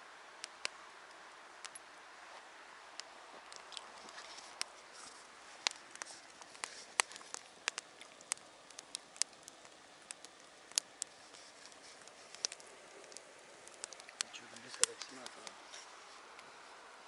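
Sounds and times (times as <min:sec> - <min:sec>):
campfire crackling: 0:00.0 - 0:17.0
faint hiss: 0:00.0 - 0:17.0.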